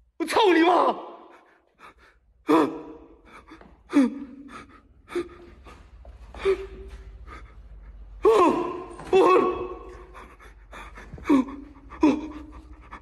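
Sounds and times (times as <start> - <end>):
man gasping: 1.3 - 9.1, 9.8 - 13.0.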